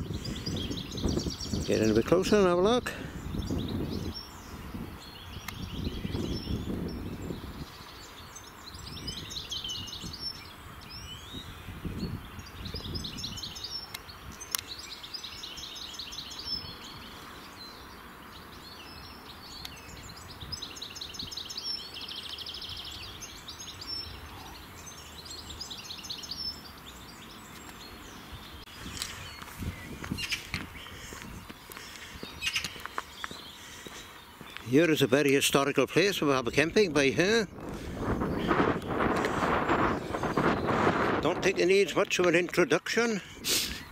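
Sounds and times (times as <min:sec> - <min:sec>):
songbirds trilling: 0:00.0 - 0:43.9.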